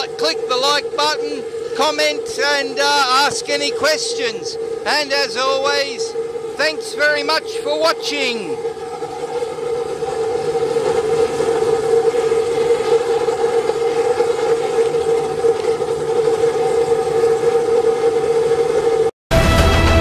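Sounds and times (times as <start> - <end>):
constant hum-like tone: 0.0 - 19.1
oil burner roaring: 0.0 - 20.0.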